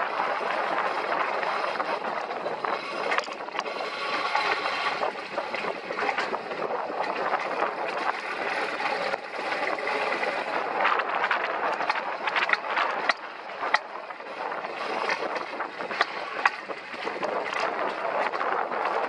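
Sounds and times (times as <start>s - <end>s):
wheels rolling on rails: 0.0s - 19.0s.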